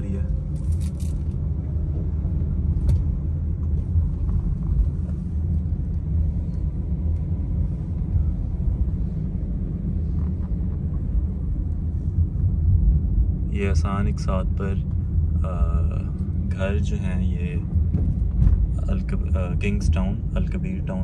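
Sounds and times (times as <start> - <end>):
car interior driving rumble: 0.0 - 21.0.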